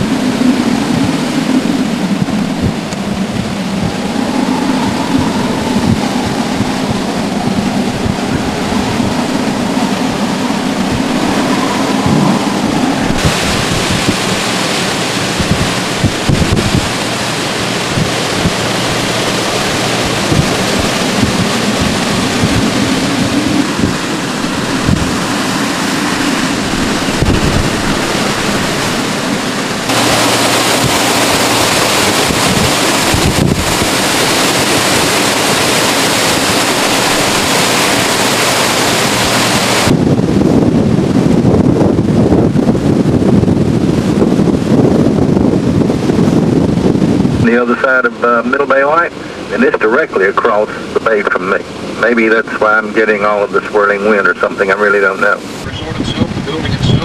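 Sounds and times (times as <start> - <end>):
wind buffeting microphone: 0.0 - 57.0
wind howling through trees: 0.0 - 57.0.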